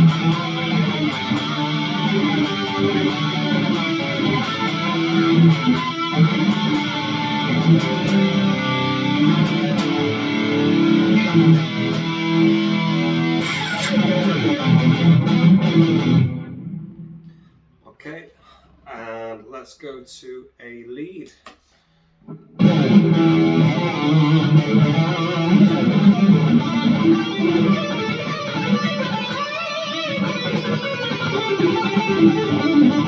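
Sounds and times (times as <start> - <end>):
electric guitar chugging: 0.0 - 17.2, 22.6 - 33.0.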